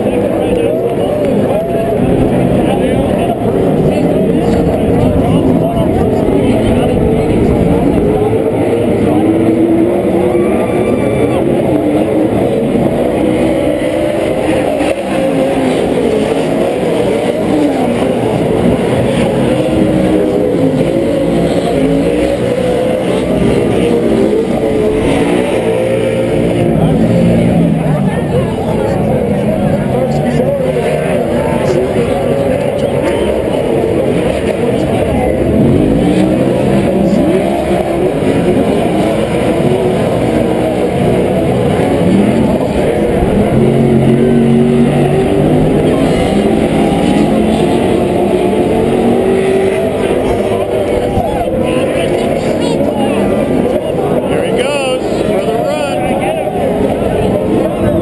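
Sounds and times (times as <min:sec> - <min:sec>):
race truck engines revving: 0:00.0 - 0:58.0.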